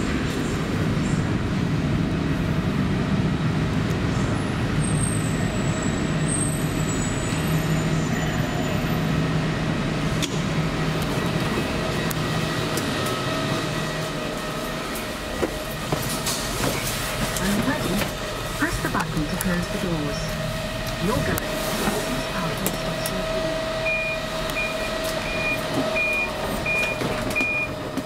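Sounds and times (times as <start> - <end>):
vehicle interior hum and rumble: 0.0 - 28.0.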